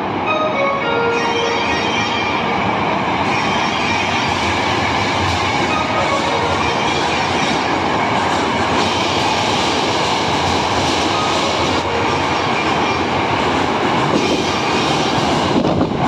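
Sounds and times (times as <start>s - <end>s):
electric train passing at speed: 0.0s - 16.0s.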